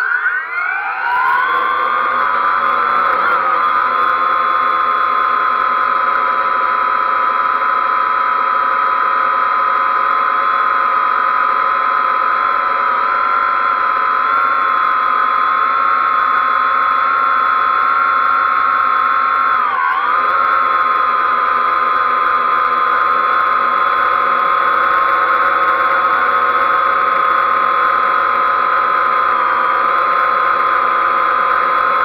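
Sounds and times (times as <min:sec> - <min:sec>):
quadcopter propellers whining: 0:00.0 - 0:32.0.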